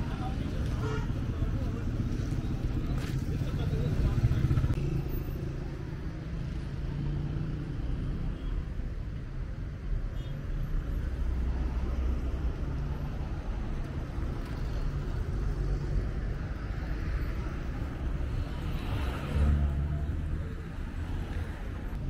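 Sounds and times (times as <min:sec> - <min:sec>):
road traffic drone: 0:00.0 - 0:22.0.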